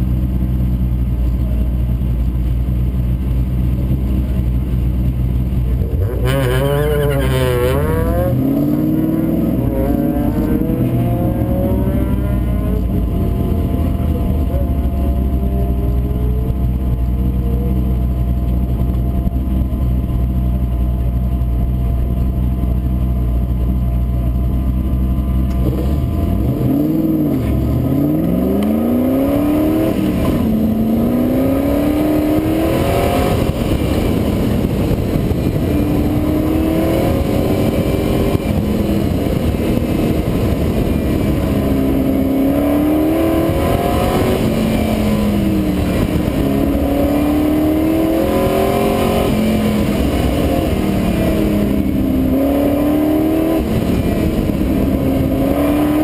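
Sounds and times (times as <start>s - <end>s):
race car engine idling and revving: 0.0s - 56.0s.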